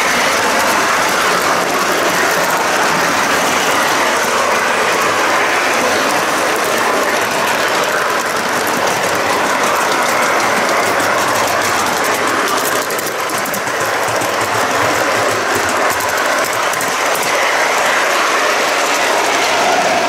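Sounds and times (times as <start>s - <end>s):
model train wheels clattering: 0.0s - 20.0s.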